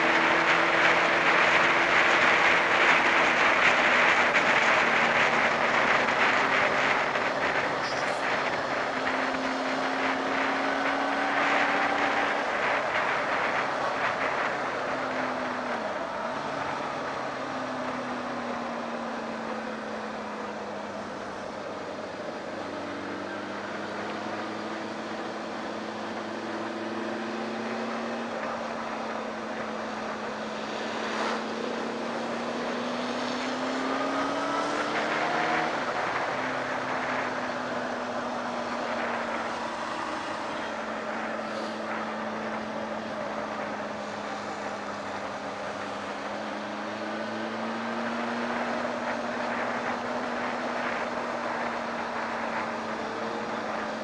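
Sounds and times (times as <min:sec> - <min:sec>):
motorcycle engine cruising: 0:00.0 - 0:54.0
wind and road rush: 0:00.0 - 0:54.0.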